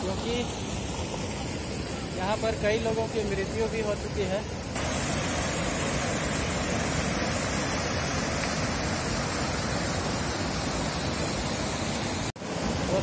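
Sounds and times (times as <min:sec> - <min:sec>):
water gushing from pipes: 0:00.0 - 0:13.0.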